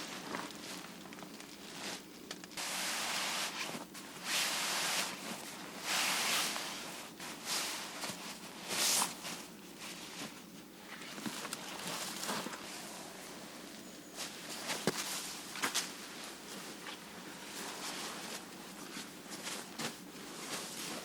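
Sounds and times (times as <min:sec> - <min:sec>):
rustling and crunching: 0:00.0 - 0:21.0.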